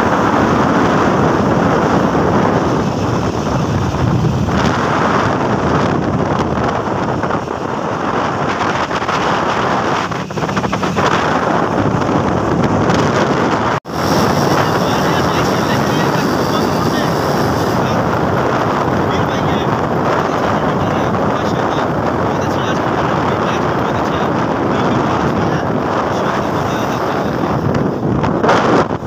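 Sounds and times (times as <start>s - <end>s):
motorbike road noise: 0.0s - 29.0s
wind rushing over microphone: 0.0s - 29.0s.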